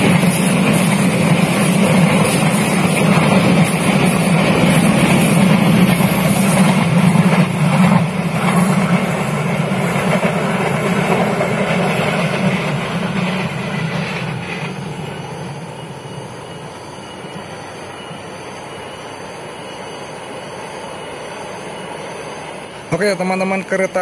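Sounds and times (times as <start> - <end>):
train coaches rumbling past: 0.0 - 24.0.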